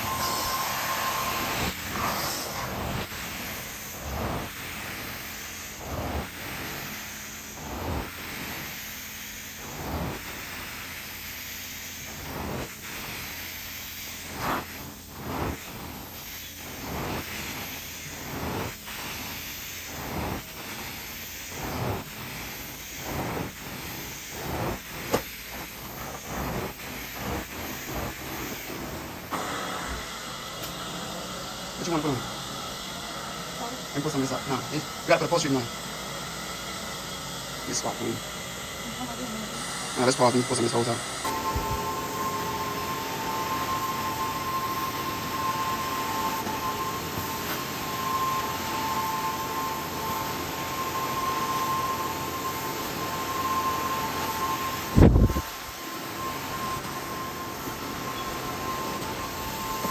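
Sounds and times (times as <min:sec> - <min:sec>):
carpet cleaner vacuum hissing: 0:00.0 - 0:59.9.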